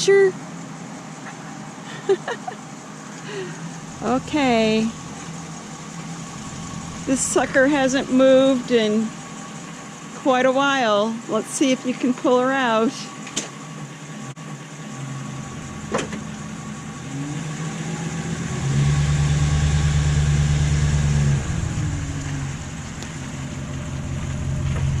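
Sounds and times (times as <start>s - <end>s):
vehicle engine under load: 0.0s - 25.0s.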